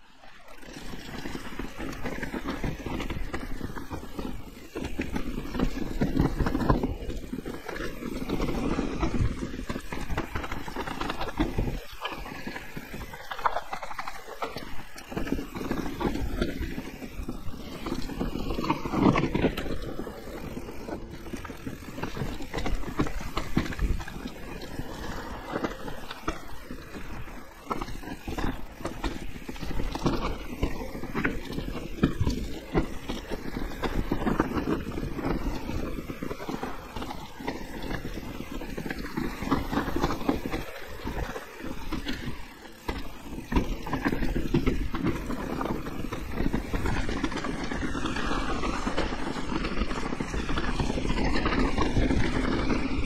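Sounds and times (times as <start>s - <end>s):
bike rattling and knocking: 0.5s - 53.0s
wind rumbling on microphone: 0.6s - 53.0s.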